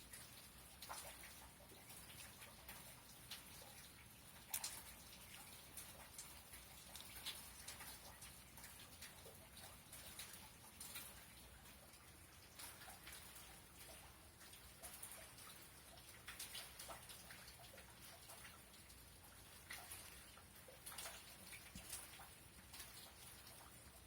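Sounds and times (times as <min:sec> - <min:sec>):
raindrops ticking and dripping: 0:00.0 - 0:24.0.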